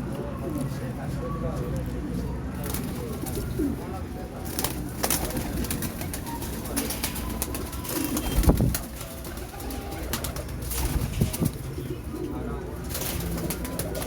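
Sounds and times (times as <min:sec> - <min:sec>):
pigeons cooing: 0:02.6 - 0:14.0.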